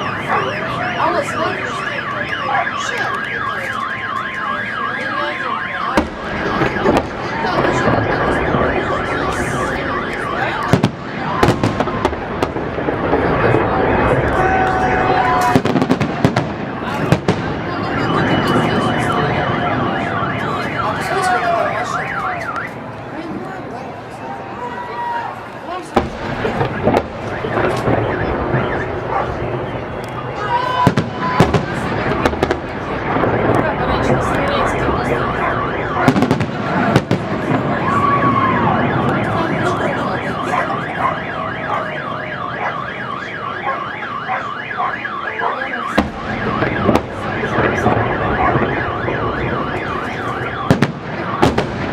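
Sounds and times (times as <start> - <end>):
car alarm wailing: 0.0 - 22.9, 26.0 - 51.9
wavering alarm tones: 0.0 - 22.9, 26.1 - 51.9
fireworks crackling: 0.0 - 24.2, 25.4 - 45.0, 45.8 - 51.9.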